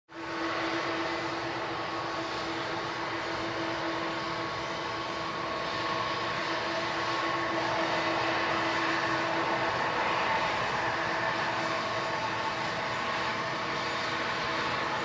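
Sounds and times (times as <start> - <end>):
jet engines whining: 0.1 - 15.0.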